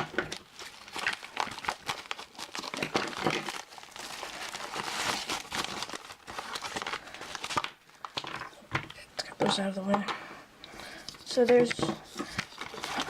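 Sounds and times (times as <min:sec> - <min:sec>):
packaging crinkling and rustling: 0:00.0 - 0:09.8, 0:10.9 - 0:13.0.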